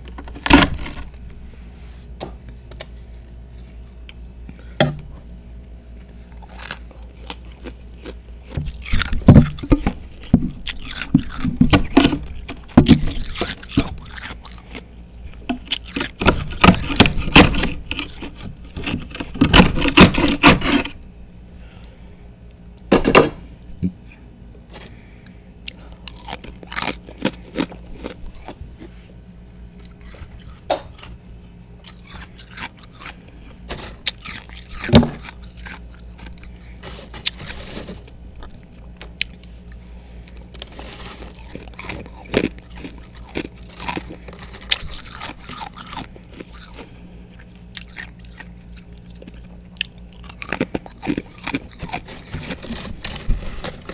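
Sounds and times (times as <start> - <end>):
ice being chewed and crunched: 0.0 - 1.4, 2.4 - 21.1, 24.7 - 29.1, 29.7 - 53.9.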